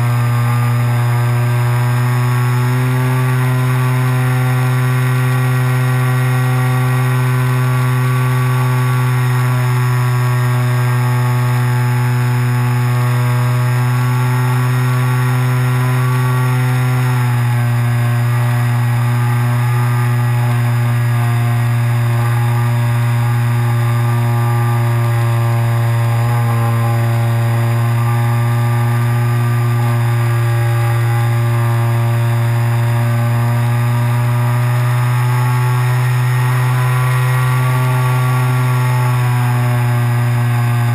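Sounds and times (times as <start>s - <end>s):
model plane motor and propeller: 0.0s - 40.9s.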